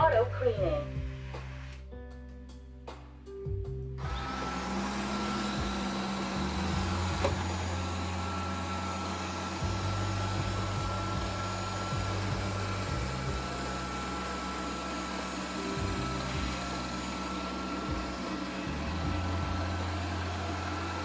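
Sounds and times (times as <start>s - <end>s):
robot vacuum cleaner whirring: 4.0s - 21.0s.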